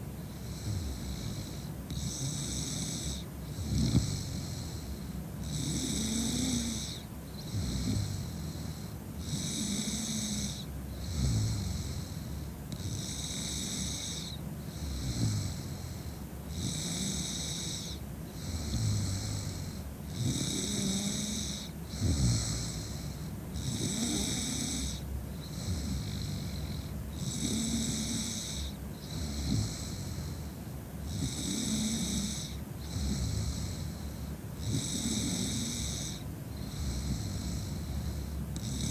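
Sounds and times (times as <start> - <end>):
woman snoring: 5.4 - 30.4, 31.0 - 38.9.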